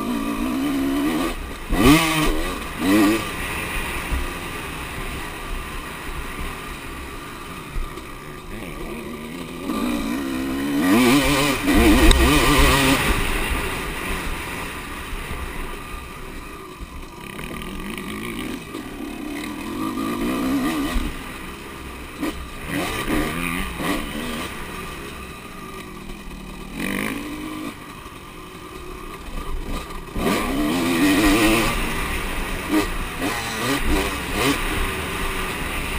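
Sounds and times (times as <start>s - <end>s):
motocross bikes passing: 0.0s - 35.9s.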